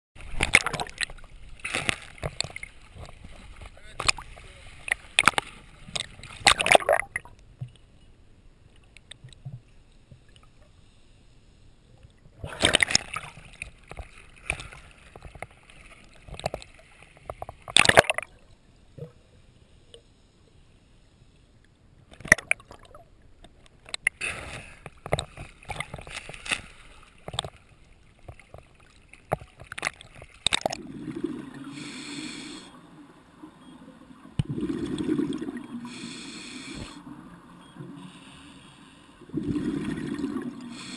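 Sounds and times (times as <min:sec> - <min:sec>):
underwater bubbling and sloshing: 0:00.2 - 0:40.9.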